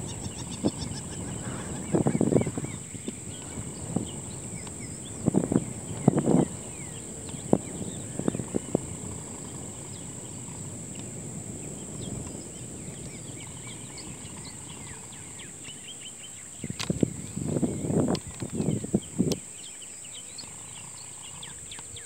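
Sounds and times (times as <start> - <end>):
bird chirps: 0.0 - 22.0
high insect drone: 0.0 - 22.0.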